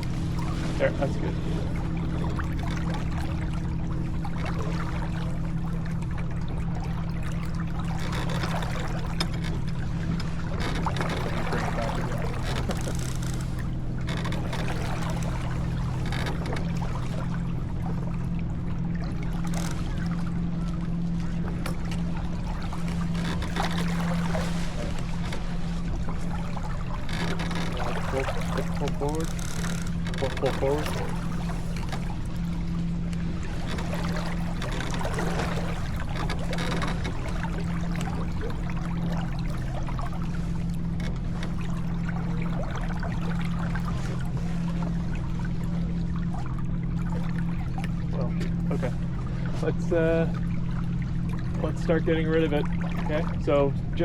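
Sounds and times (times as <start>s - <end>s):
steady low hum: 0.0s - 54.0s
water rushing along a boat hull: 0.0s - 54.0s.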